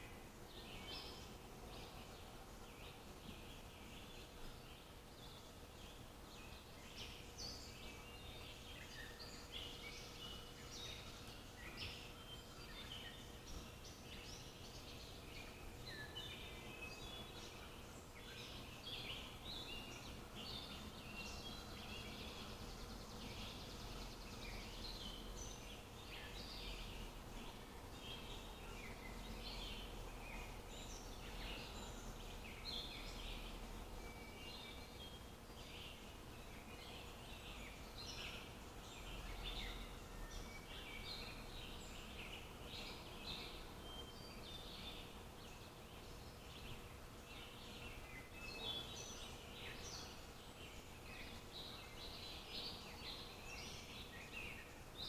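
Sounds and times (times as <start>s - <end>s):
faint steady hum: 0.0s - 55.0s
songbirds chirping: 0.0s - 55.0s.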